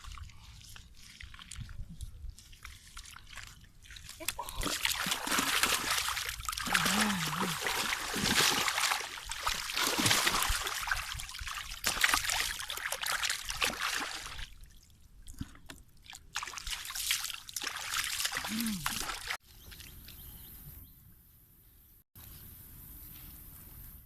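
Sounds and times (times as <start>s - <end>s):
water splashing and trickling: 0.0s - 20.2s.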